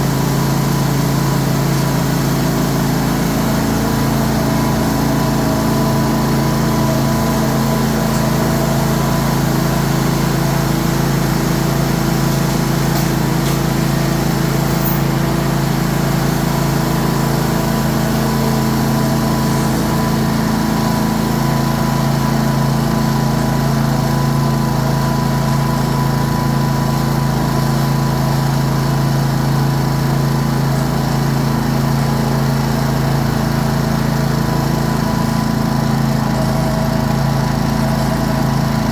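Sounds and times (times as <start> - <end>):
mower engine running: 0.0 - 38.9.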